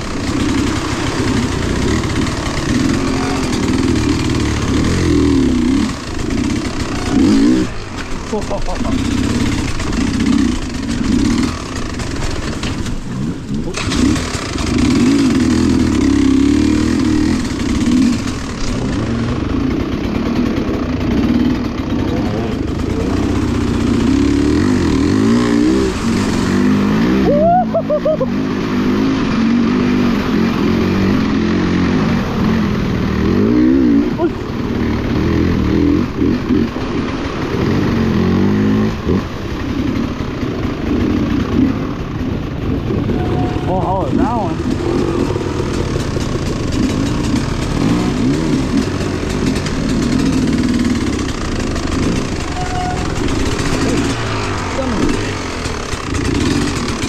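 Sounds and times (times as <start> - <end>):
steady rushing noise: 0.0 - 27.2, 28.2 - 57.0
vehicle engine revving: 0.0 - 57.0.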